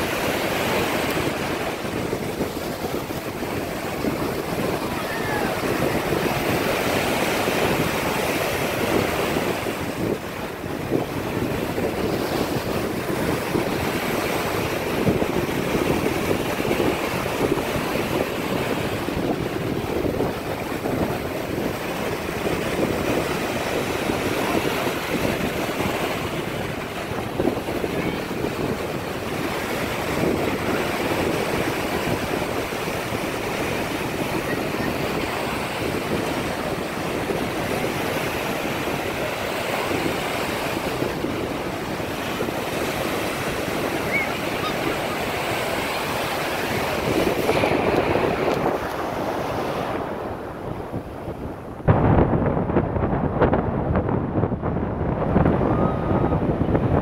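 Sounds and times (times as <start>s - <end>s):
surf washing up a beach: 0.0s - 57.0s
wind buffeting microphone: 0.0s - 57.0s.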